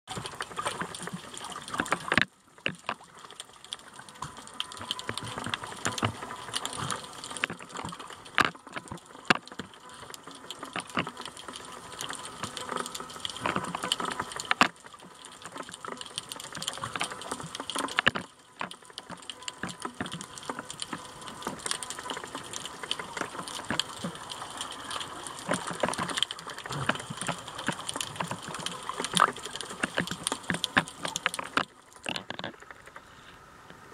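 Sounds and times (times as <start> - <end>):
clicks and crackles: 0.1 - 33.9
water sloshing and bubbling: 0.1 - 33.9.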